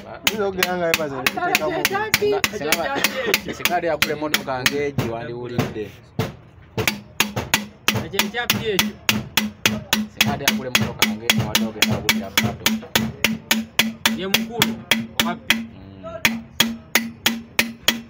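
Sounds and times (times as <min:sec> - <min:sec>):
fast percussive beat: 0:00.0 - 0:05.2, 0:06.8 - 0:18.0.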